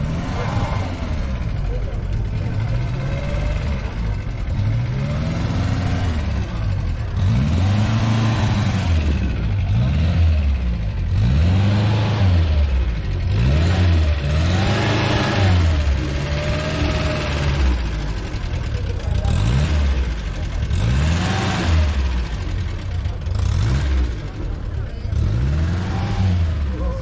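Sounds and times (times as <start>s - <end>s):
small car engine revving: 0.0s - 27.0s.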